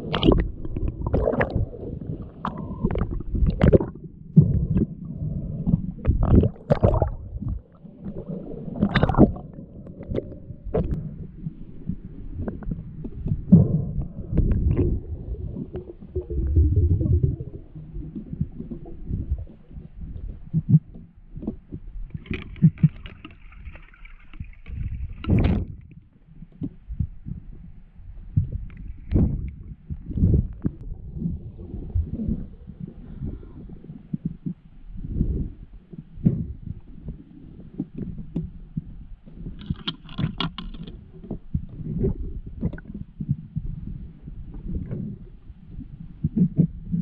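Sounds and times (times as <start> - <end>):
underwater rush: 0.0 - 35.6, 36.2 - 47.0
underwater thuds and sloshing: 0.0 - 47.0.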